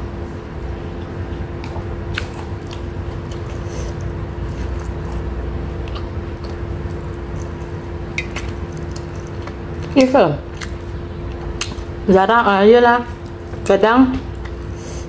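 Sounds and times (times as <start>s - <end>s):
steady low hum: 0.0s - 15.0s
person chewing wetly: 0.9s - 12.1s, 13.0s - 15.0s.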